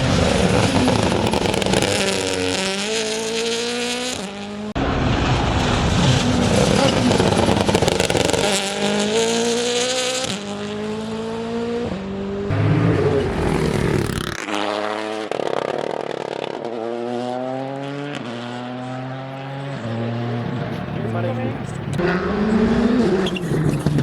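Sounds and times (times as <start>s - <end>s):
car engine accelerating through gears: 0.0s - 24.0s.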